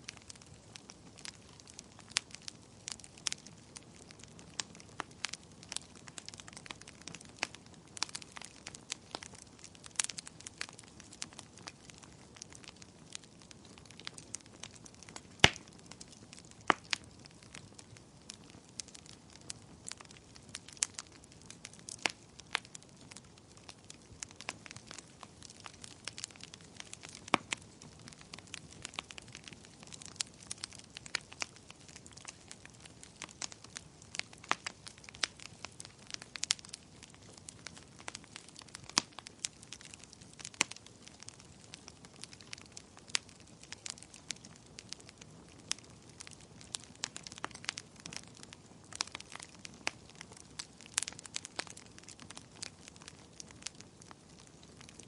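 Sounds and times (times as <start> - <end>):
wood fire crackling: 0.0 - 55.0
loud fire pops: 0.4 - 55.0.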